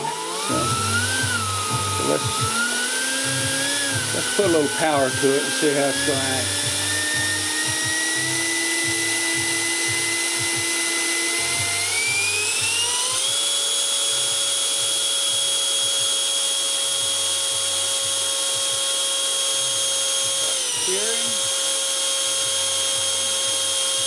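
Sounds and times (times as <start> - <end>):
model jet turbine whine: 0.0 - 24.0.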